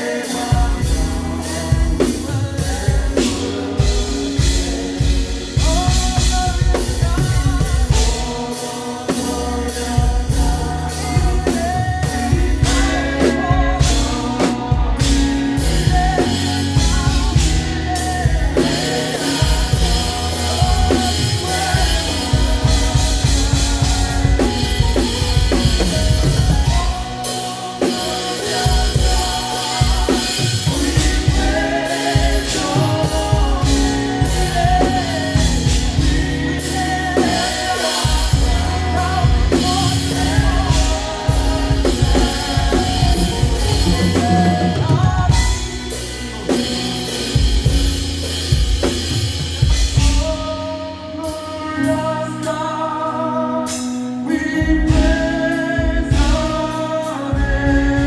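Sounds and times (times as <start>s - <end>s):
drum kit steady beat: 0.0s - 52.7s, 53.6s - 58.0s
voices singing: 0.0s - 58.0s.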